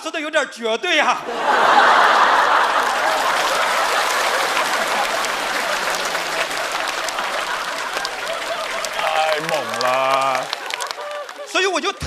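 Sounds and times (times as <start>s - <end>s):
audience applauding: 1.3s - 12.0s.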